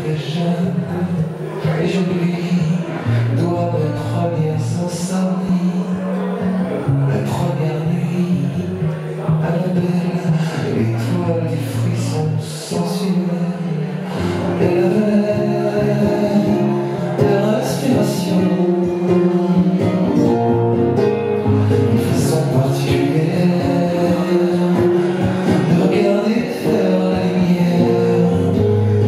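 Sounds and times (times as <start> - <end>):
guitar: 0.0 - 29.0
man singing: 0.0 - 29.0.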